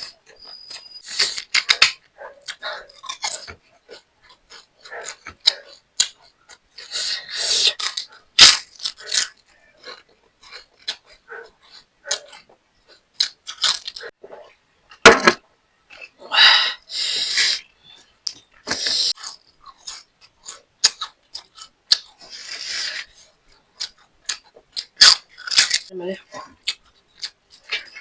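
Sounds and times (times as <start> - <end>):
crunchy chewing: 0.0 - 14.6, 17.2 - 28.0.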